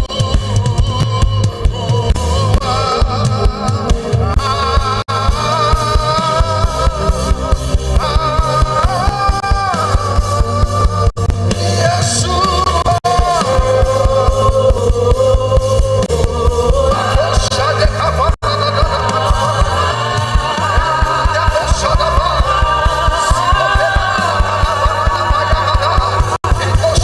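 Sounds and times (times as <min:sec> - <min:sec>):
gospel band playing: 0:00.0 - 0:27.0
person singing: 0:00.0 - 0:27.0.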